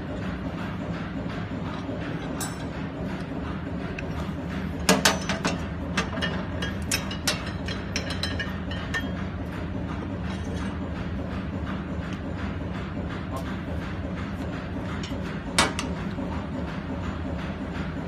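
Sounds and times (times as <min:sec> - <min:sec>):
low mechanical drone: 0:00.0 - 0:18.0.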